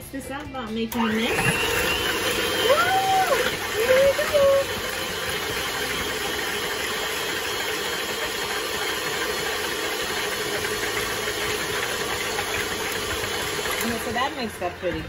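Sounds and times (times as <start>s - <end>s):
electric hand mixer humming: 0.9s - 15.0s.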